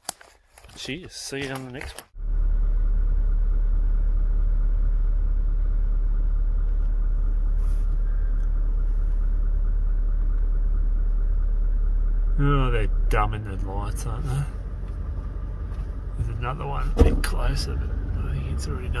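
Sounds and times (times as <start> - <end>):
car engine idling: 2.2 - 19.0.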